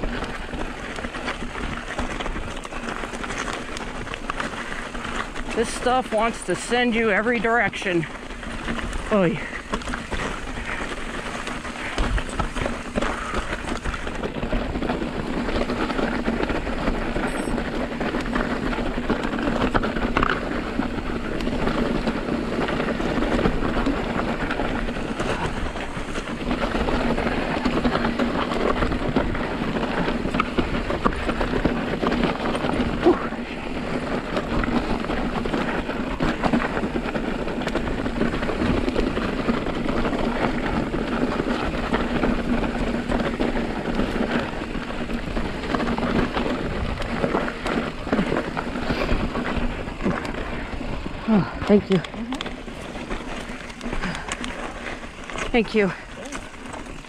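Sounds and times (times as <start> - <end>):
bike rattling: 0.0 - 57.0
bike tyres crunching gravel: 0.0 - 57.0.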